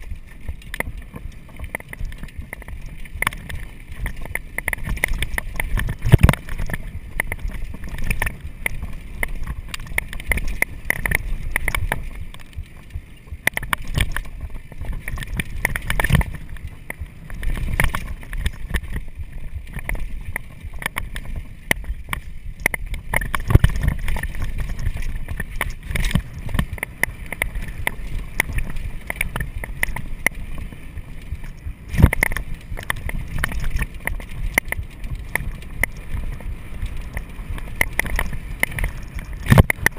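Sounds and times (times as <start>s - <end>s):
bike rattling over bumps: 0.0s - 39.9s
tyres rumbling on dirt: 0.0s - 39.9s.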